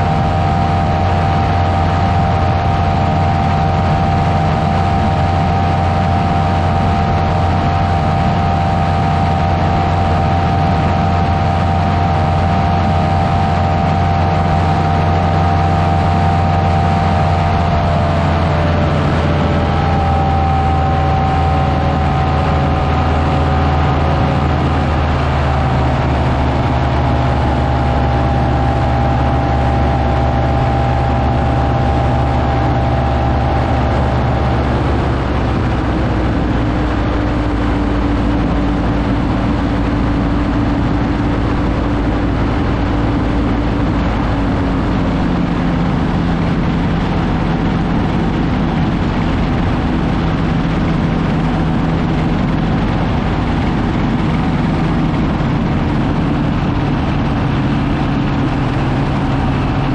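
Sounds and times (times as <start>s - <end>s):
engine and propeller droning: 0.0s - 59.9s.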